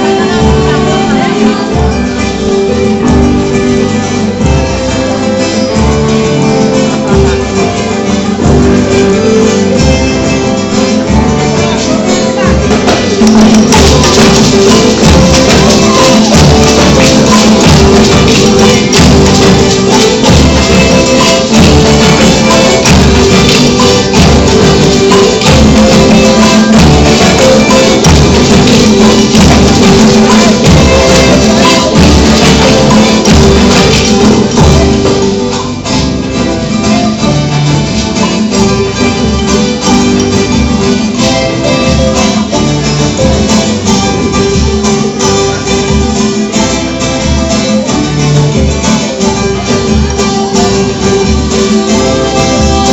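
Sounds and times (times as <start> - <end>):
pitched instruments playing: 0.0 - 52.9.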